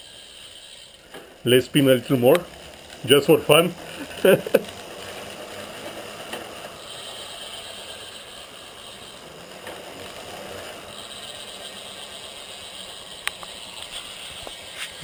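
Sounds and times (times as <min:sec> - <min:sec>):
bicycle freehub buzzing: 0:00.0 - 0:15.0.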